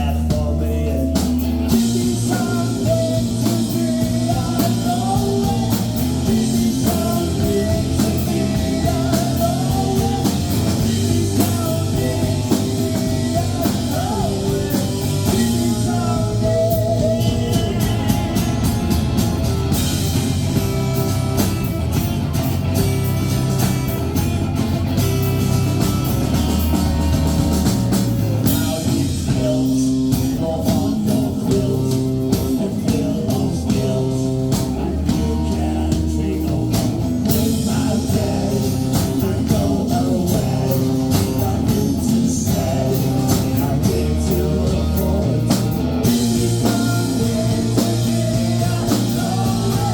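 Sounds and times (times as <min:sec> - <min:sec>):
person singing: 0:00.0 - 0:18.6, 0:28.4 - 0:49.9
bass guitar: 0:00.0 - 0:49.9
drums: 0:00.0 - 0:49.9
electric guitar: 0:00.0 - 0:49.9.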